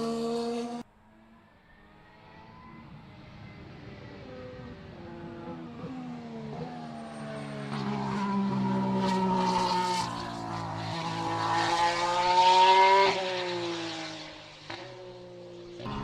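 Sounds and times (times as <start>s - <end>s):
racing car engine accelerating: 0.0s - 16.0s.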